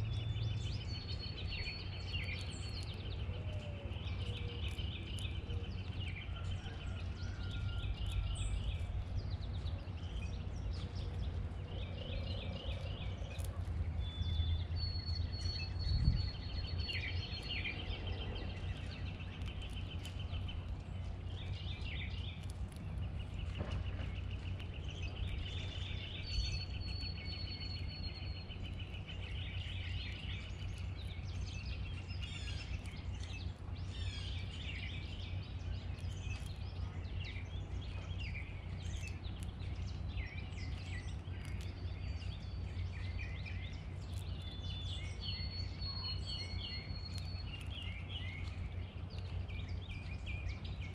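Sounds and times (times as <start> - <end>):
songbirds singing and trilling: 0.0 - 50.9
steady low rumble: 0.0 - 50.9.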